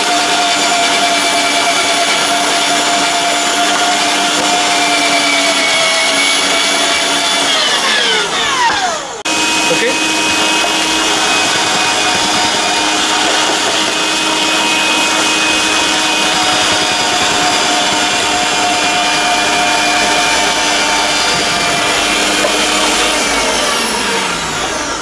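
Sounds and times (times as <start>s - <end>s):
meat mincer motor running: 0.0s - 25.0s
motor winding down whine: 0.0s - 25.0s.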